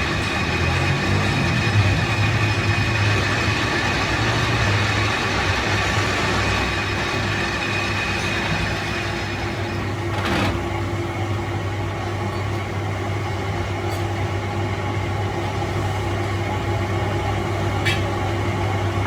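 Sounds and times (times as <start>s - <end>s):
workshop machine humming: 0.0s - 19.0s.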